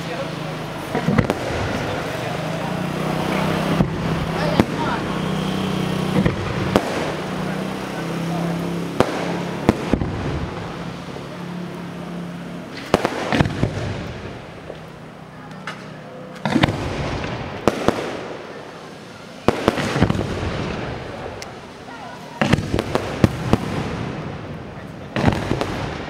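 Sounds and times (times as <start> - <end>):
fireworks bangs: 0.0 - 26.0
noisy wash: 0.0 - 26.0.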